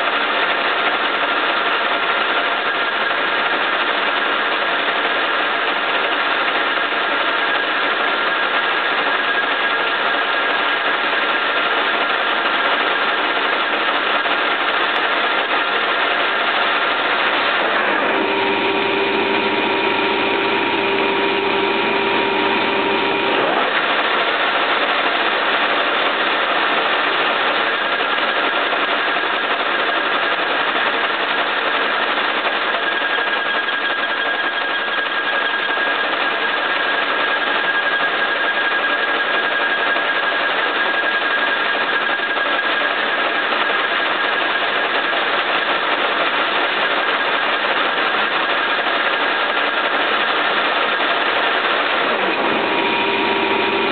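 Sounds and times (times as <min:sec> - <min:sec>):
lathe running: 0:00.1 - 0:53.9.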